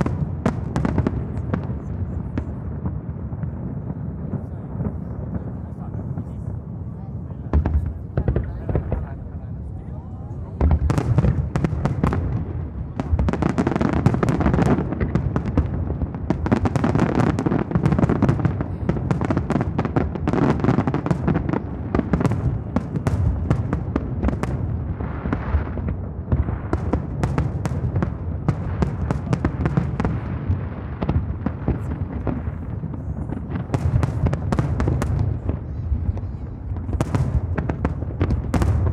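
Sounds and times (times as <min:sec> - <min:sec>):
fireworks cracks and bangs: 0:00.0 - 0:38.9.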